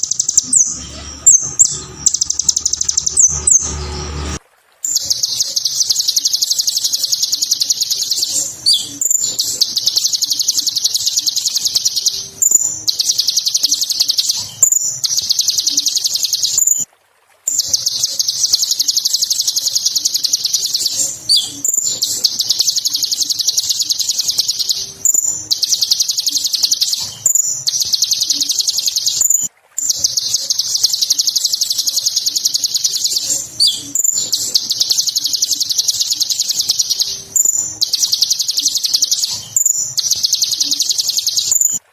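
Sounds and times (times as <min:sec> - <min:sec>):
sunbird chattering trill: 0:00.0 - 0:16.8, 0:17.5 - 0:41.8.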